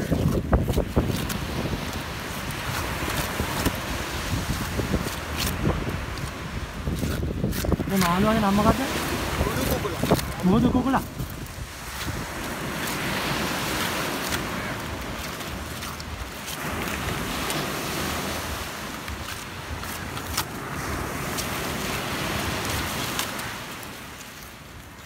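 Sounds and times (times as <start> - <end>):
surf washing on a beach: 0.0 - 25.0.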